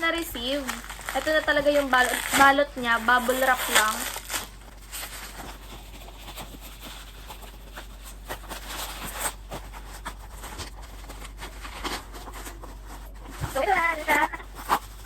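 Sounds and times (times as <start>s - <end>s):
bubble wrap crinkling and rustling: 0.0s - 15.0s.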